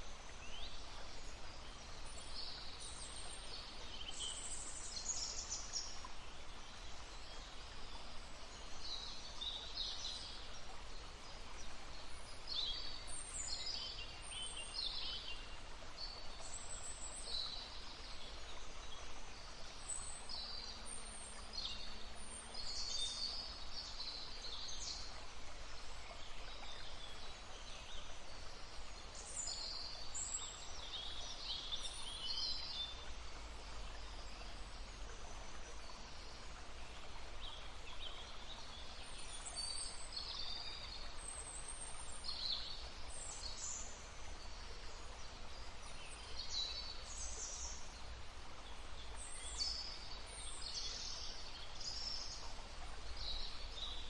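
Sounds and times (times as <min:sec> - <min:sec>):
babbling brook: 0:00.0 - 0:54.0.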